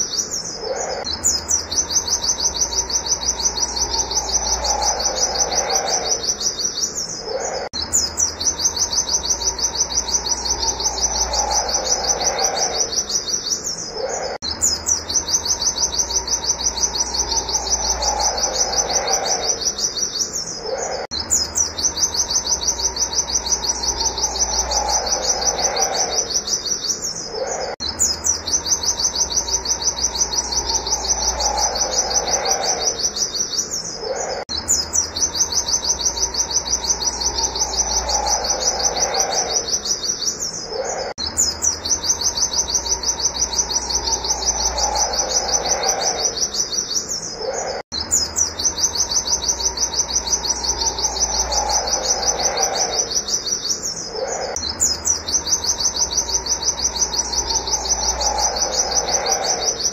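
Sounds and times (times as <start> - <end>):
bird singing high notes: 0.0 - 59.9.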